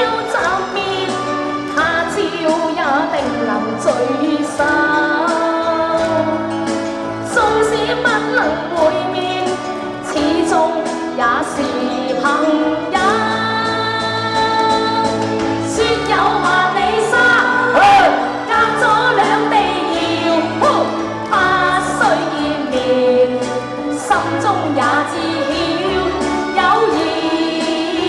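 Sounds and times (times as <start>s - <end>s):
woman singing into microphone: 0.0s - 6.6s, 7.2s - 28.0s.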